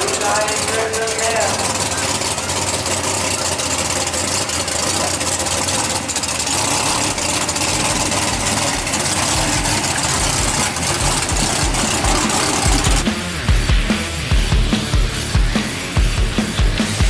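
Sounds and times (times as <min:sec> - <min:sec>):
pickup truck engine idling: 0:00.0 - 0:17.0.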